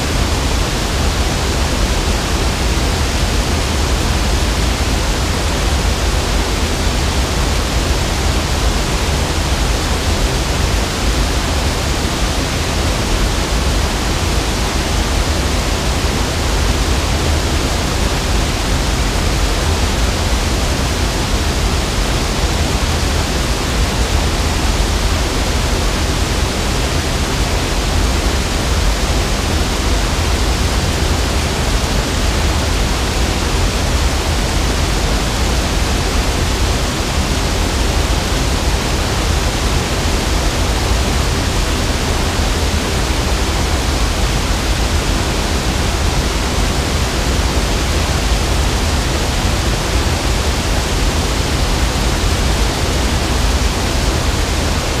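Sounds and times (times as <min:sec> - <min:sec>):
water rushing over weir: 0:00.0 - 0:55.0.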